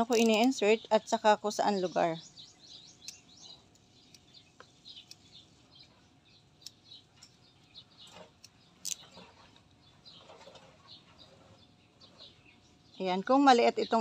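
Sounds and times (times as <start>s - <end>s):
small birds chirping faintly: 0.0s - 14.0s.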